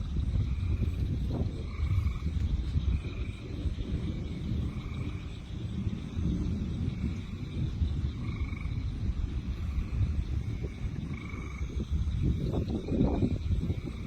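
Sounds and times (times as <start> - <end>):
frogs trilling: 0.0 - 14.0
low rumble: 0.0 - 14.0.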